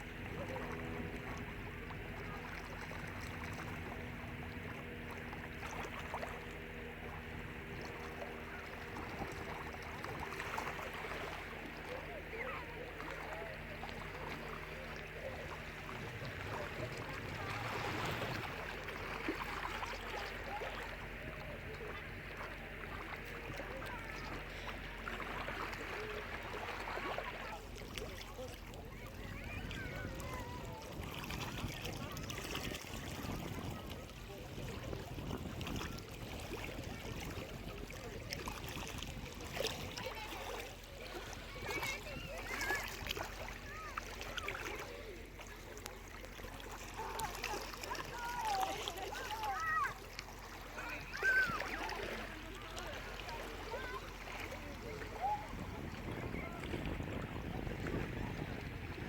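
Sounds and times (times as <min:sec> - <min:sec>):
water washing: 0:00.0 - 0:59.0.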